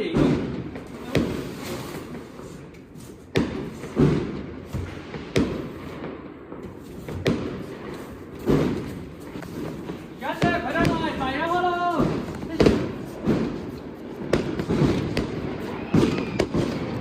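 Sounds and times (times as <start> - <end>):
firework shells thumping: 3.2 - 17.0.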